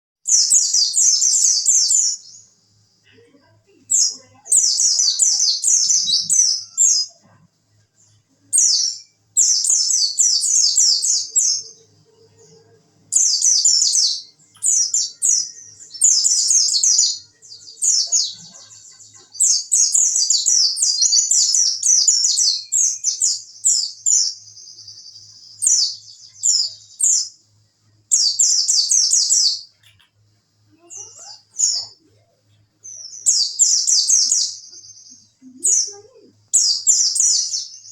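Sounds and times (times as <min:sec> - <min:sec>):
bird twittering: 0:00.2 - 0:27.5, 0:28.1 - 0:37.9
bird trill: 0:00.2 - 0:37.9.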